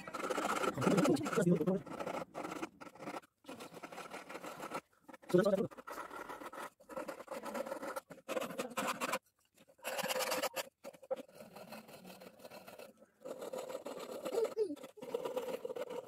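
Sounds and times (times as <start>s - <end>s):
hand tool scraping wood: 0.0s - 16.0s.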